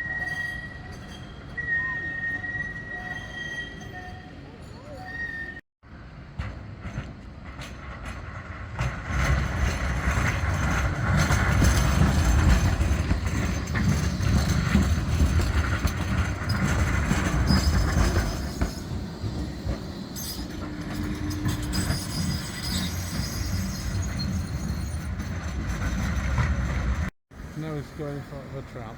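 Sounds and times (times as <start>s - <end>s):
tram wheels rumbling on rails: 0.0s - 28.9s.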